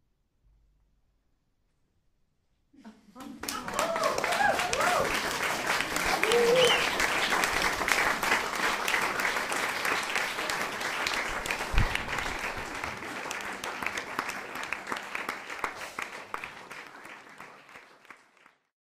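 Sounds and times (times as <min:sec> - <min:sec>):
audience applauding: 0:03.2 - 0:18.7.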